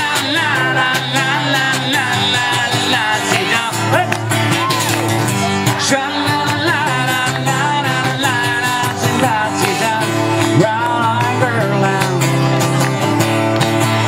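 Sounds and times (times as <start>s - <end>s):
pop-rock song with singing: 0.0s - 13.0s.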